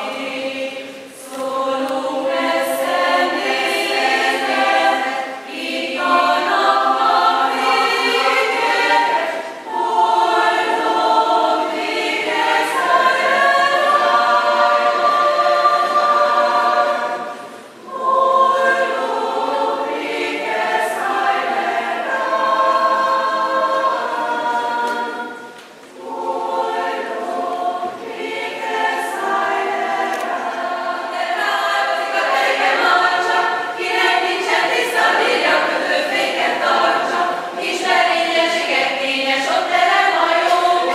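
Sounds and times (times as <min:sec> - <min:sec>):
women's choir singing: 0:00.0 - 0:40.9.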